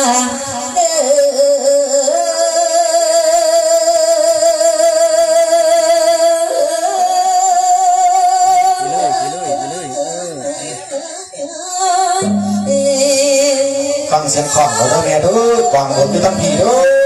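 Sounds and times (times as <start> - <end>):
person chanting into microphone: 0.0 - 17.0.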